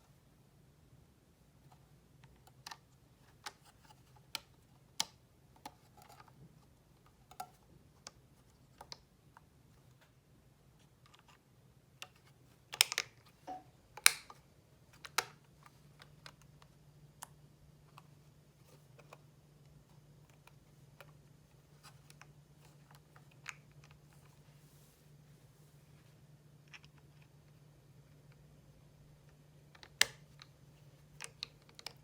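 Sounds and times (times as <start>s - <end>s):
low steady hum: 0.0s - 32.0s
small parts clicking and tapping: 1.7s - 10.2s, 10.8s - 24.4s, 26.6s - 28.5s, 29.2s - 32.0s.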